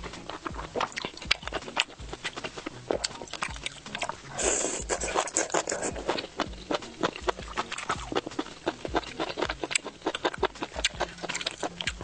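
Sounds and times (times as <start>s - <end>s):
person chewing with mouth clicks: 0.0s - 12.0s.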